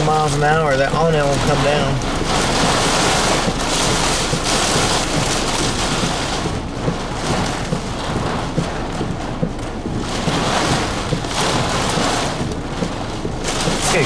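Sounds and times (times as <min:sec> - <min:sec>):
wind and rain buffeting vehicle: 0:00.0 - 0:14.0.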